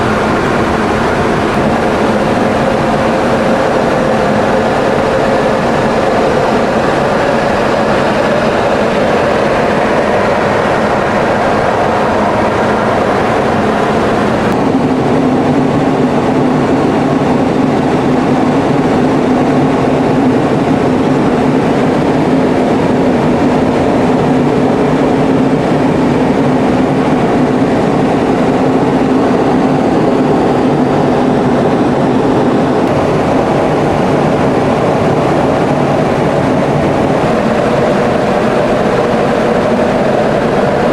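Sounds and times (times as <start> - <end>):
jet engine and airflow roar: 0.0 - 40.9
steady low hum: 0.0 - 40.9.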